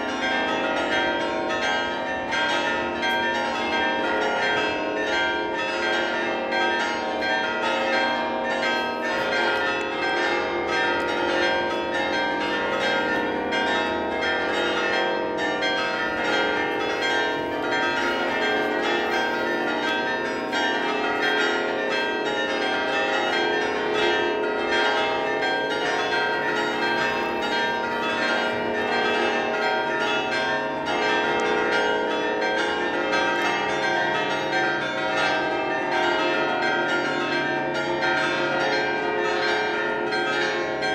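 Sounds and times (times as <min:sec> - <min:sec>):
church bells ringing a peal: 0:00.0 - 0:40.9.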